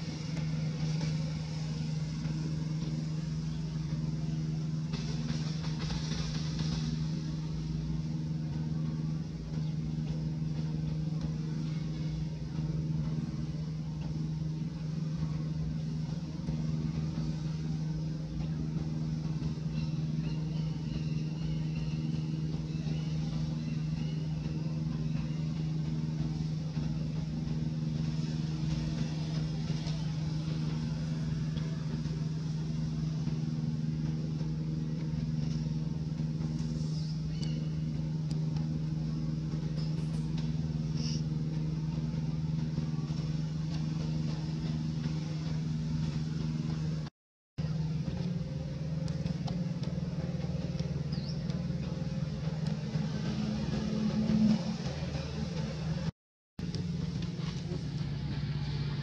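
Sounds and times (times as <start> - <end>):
low motor hum: 0.0 - 59.0.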